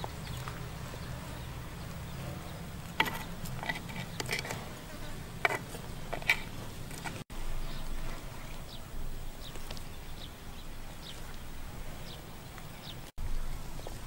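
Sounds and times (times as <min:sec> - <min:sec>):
steady low buzz: 0:00.0 - 0:14.0.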